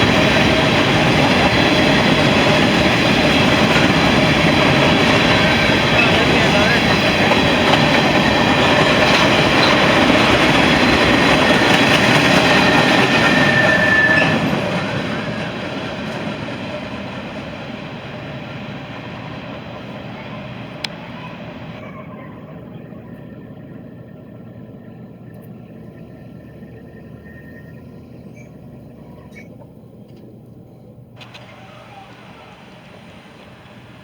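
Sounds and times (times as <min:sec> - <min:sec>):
train wheel squeal: 0:00.0 - 0:30.2, 0:31.2 - 0:34.0
freight train wheels clacking: 0:00.0 - 0:34.0.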